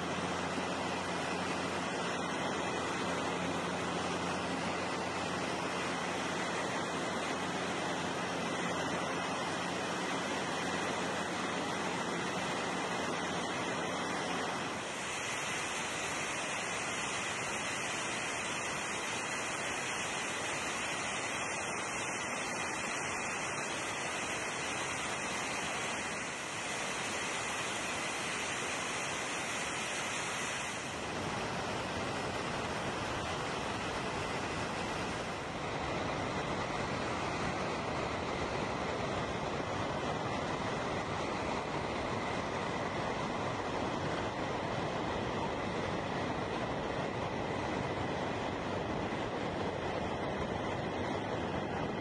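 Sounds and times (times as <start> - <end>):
wind rushing over camera: 0.0 - 52.0.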